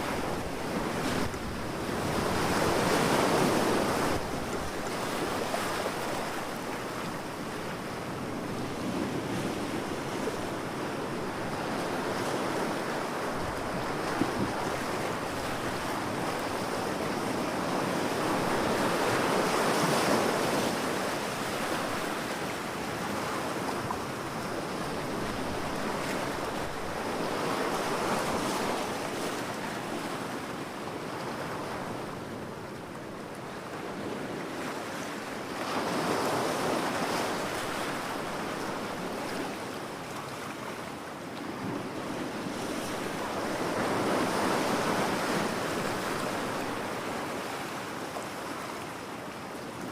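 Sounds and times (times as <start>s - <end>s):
sea waves breaking on beach: 0.0s - 49.9s.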